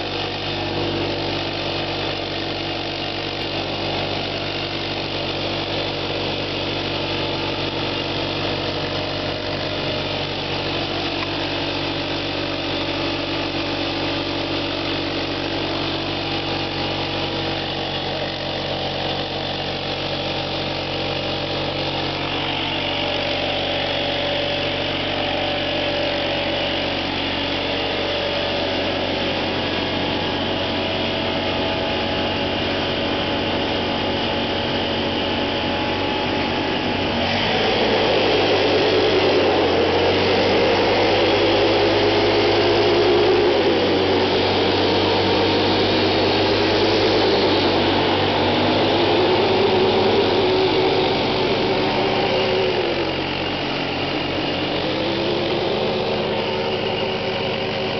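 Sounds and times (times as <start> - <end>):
atv engine running hard: 0.0 - 57.9
wheels spinning: 0.0 - 57.9.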